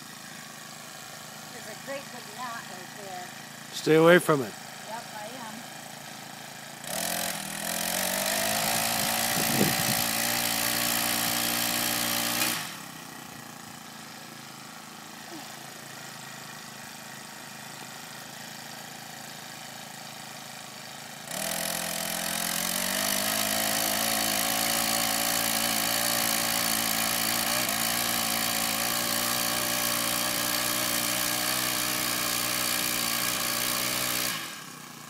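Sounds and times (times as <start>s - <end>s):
mini tiller engine revving: 0.0s - 35.0s.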